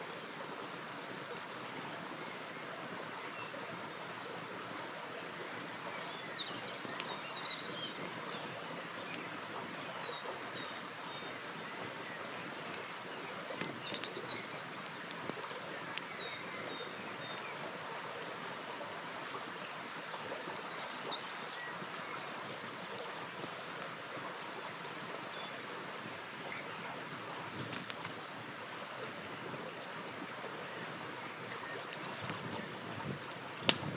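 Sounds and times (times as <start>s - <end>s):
river flowing: 0.0s - 33.9s
campfire crackling and popping: 0.3s - 33.9s.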